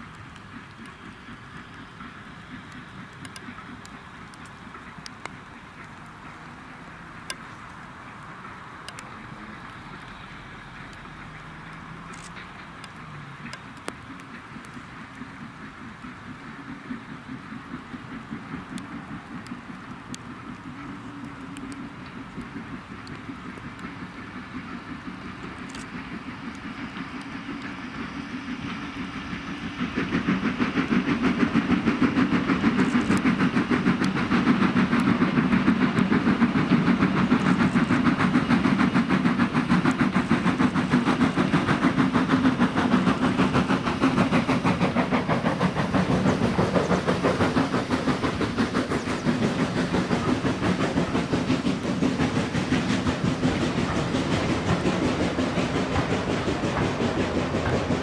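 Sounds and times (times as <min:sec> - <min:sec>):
coaches clattering on rails: 0:00.0 - 0:58.0
steam locomotive exhaust beats: 0:00.0 - 0:58.0.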